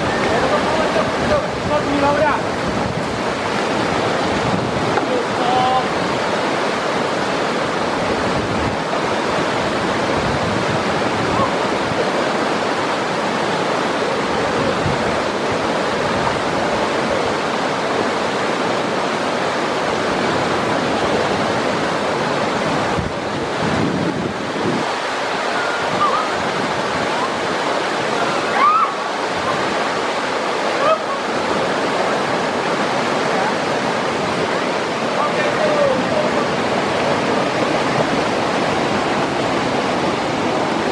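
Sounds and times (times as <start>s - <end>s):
river rapids rushing: 0.0s - 40.9s.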